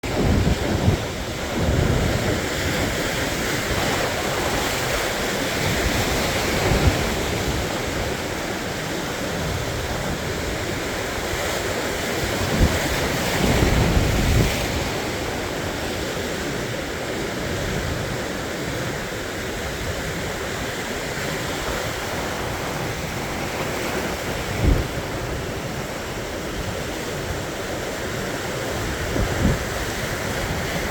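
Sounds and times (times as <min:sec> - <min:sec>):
surf washing onto shore: 0:00.0 - 0:30.9
wind buffeting microphone: 0:00.0 - 0:30.9.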